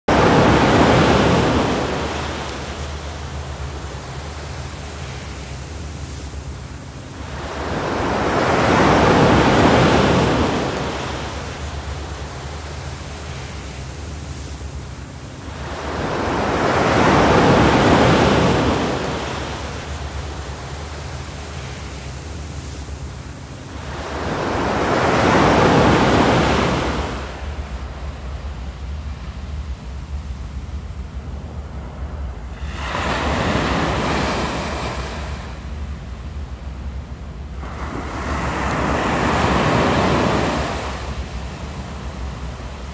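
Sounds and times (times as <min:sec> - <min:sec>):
ocean waves breaking: 0:00.1 - 0:42.9
surf washing up sand: 0:00.1 - 0:42.9.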